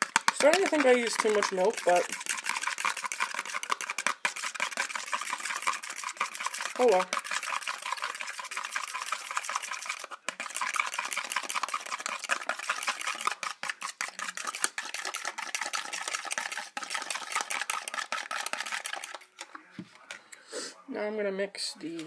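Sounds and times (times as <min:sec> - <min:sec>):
spoon beating in plastic container: 0:00.0 - 0:20.2.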